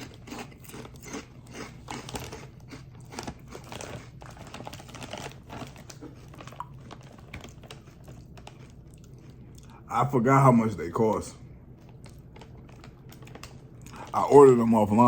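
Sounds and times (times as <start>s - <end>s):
person chewing crisp chips: 0.0s - 9.9s, 11.8s - 15.0s.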